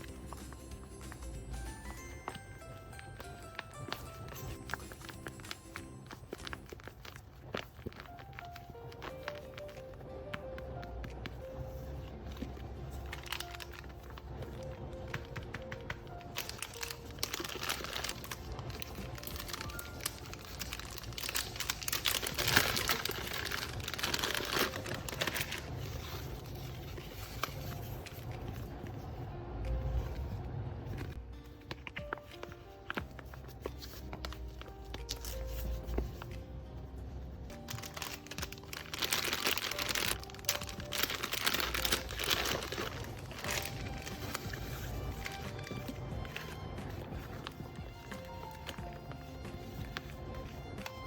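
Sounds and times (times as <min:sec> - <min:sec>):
paper crinkling and rustling: 0:00.0 - 0:51.0
quiet background music: 0:00.0 - 0:51.0.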